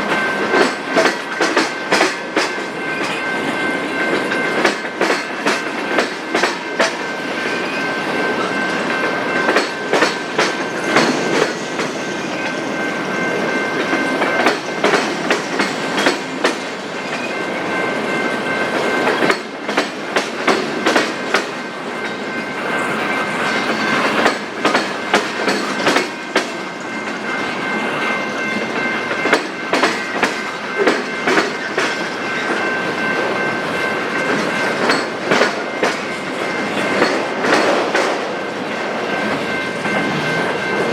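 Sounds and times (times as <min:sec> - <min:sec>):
train wheels clattering over rails: 0:00.0 - 0:22.5, 0:23.2 - 0:40.9.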